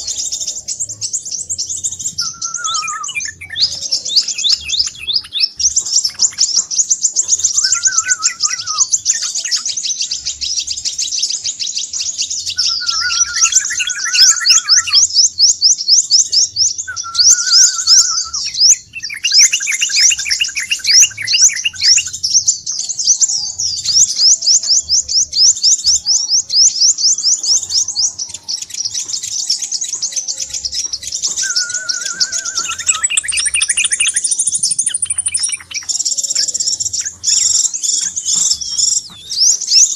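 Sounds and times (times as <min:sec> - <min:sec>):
lower slower bird trills: 0:00.0 - 0:11.3, 0:12.5 - 0:22.5, 0:23.5 - 0:39.9
bird chittering: 0:00.0 - 0:39.9.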